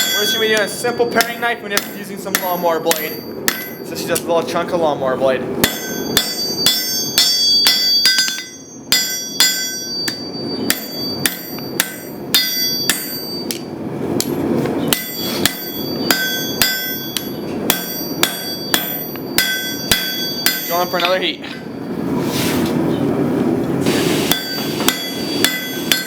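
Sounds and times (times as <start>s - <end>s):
hammer striking steel on anvil: 0.0s - 4.4s, 5.6s - 21.7s, 24.3s - 26.0s.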